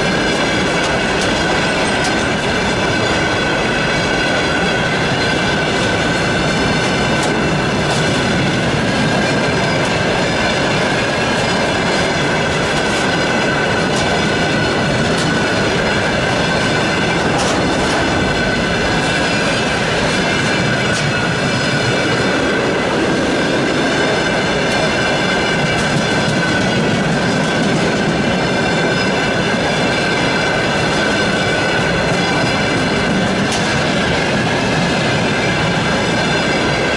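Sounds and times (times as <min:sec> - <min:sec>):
wheels clicking over rail joints: 0:00.0 - 0:36.9.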